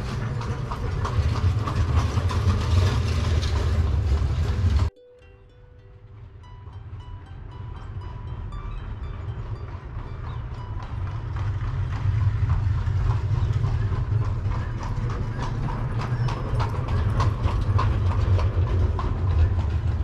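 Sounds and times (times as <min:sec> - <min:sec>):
horse hooves clip-clopping: 0:00.0 - 0:04.9, 0:08.7 - 0:20.0.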